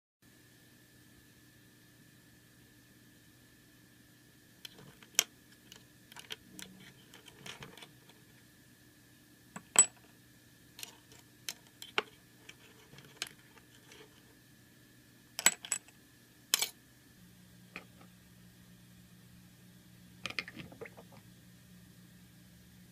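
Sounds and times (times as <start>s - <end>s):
faint steady hum: 0.2s - 22.9s.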